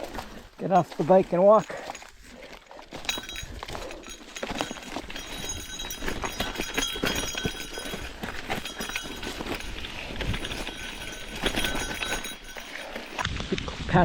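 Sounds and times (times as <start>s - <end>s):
footsteps crunching on gravel: 0.0s - 13.5s
bike and stones clinking: 0.0s - 13.8s.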